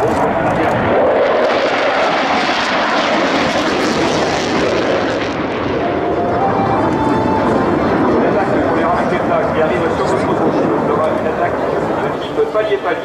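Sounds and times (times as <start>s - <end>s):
fighter jet flying past: 0.0s - 13.0s.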